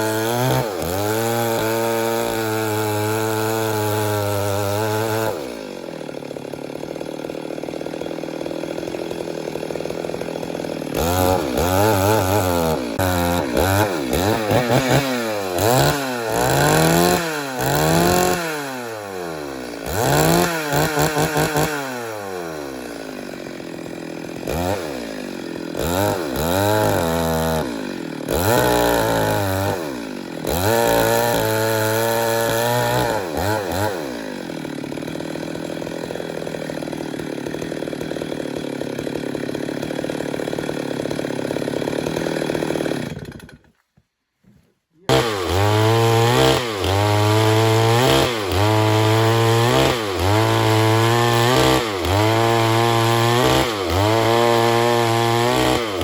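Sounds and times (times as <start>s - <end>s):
chainsaw revving: 0.0s - 43.7s, 45.0s - 56.0s.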